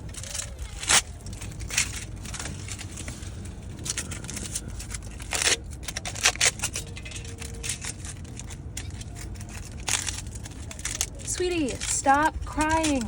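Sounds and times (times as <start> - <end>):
rustling: 0.0 - 13.0
steady low hum: 0.0 - 13.0.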